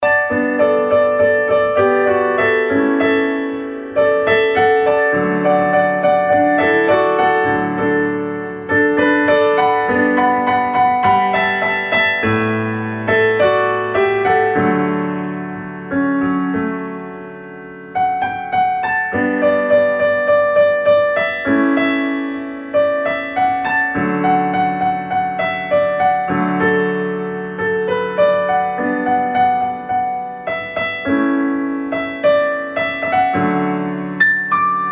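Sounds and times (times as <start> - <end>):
gentle piano music: 0.0 - 34.9.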